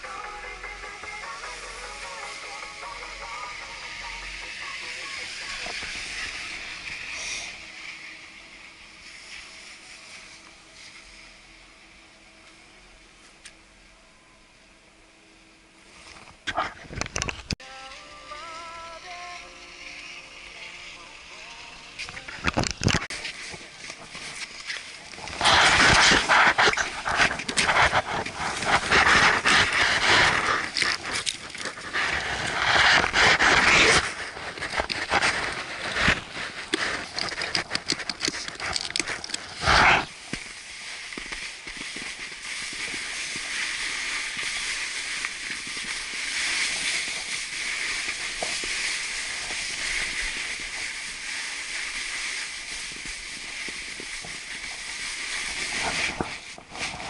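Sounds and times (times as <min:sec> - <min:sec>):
snowboard sliding hiss: 0:00.0 - 0:13.3, 0:17.6 - 0:22.4, 0:23.1 - 0:57.0.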